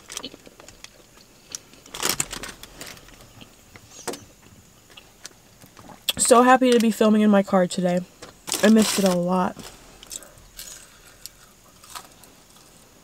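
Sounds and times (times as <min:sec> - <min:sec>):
crunchy rustling food: 0:00.0 - 0:06.1, 0:08.3 - 0:13.0.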